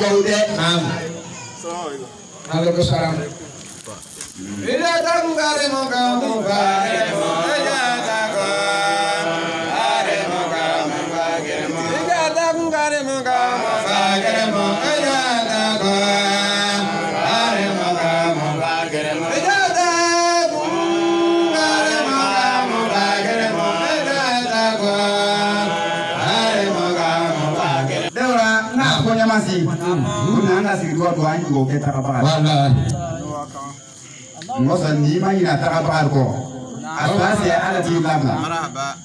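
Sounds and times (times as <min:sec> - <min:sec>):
men chanting devotional song: 0:00.0 - 0:39.0.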